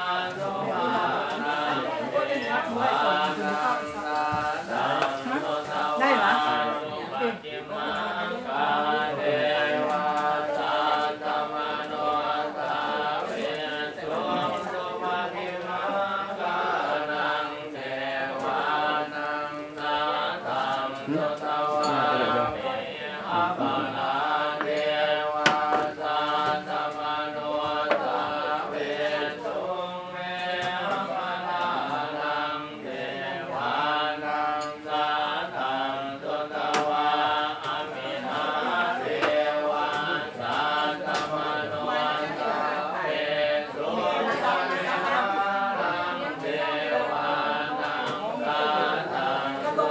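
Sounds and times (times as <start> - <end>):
voices chanting in unison: 0.0 - 49.9.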